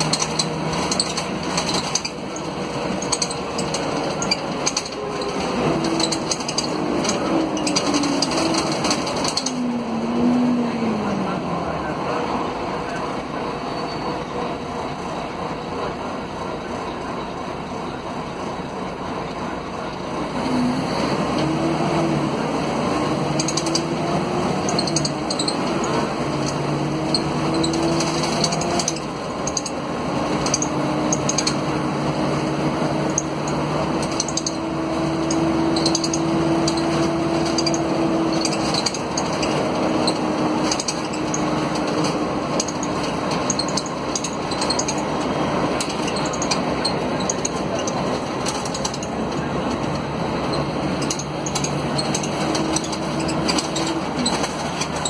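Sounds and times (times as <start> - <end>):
bus diesel engine revving: 0.0 - 55.0.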